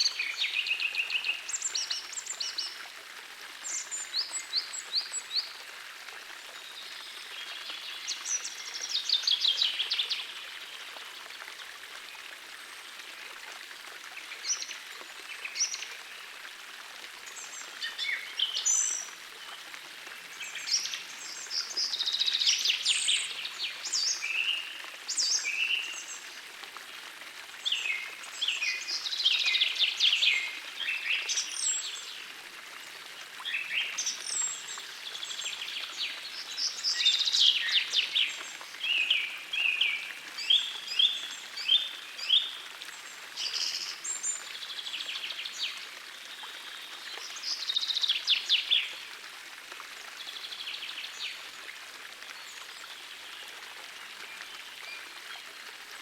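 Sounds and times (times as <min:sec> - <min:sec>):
forest stream rushing: 0:00.0 - 0:56.0.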